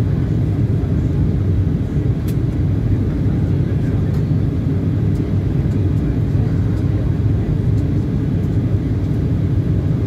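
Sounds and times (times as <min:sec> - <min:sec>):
jet engine rumble in cabin: 0:00.0 - 0:10.0.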